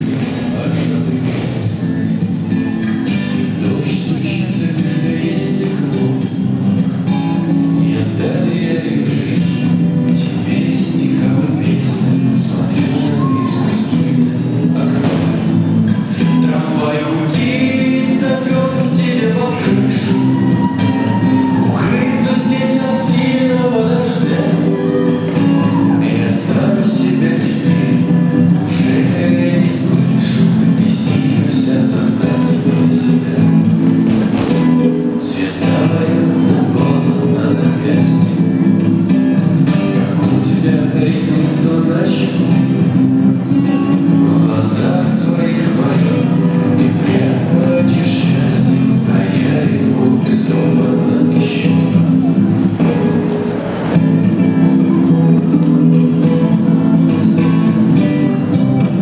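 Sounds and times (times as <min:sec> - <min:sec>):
dance song with singing: 0:00.0 - 0:55.8
strummed acoustic guitar music: 0:00.0 - 0:59.0.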